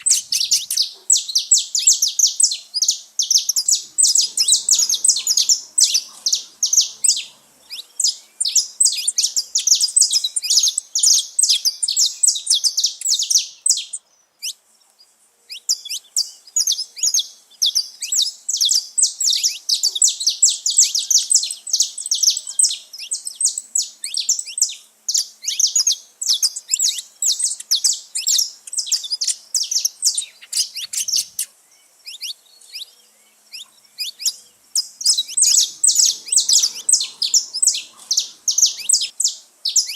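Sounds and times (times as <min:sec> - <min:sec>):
finches singing and chirping: 0:00.0 - 0:39.9.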